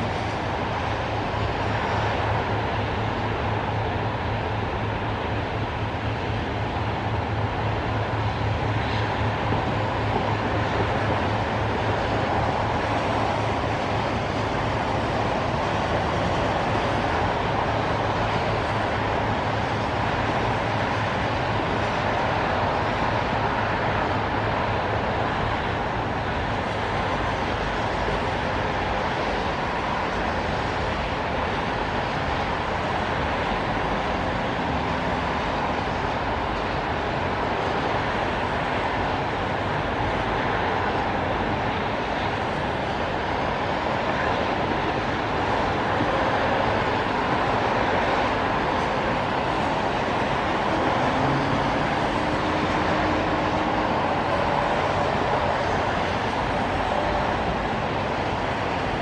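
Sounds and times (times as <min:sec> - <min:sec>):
rain: 0:00.0 - 0:59.0
tyres hissing on wet road: 0:00.0 - 0:59.0.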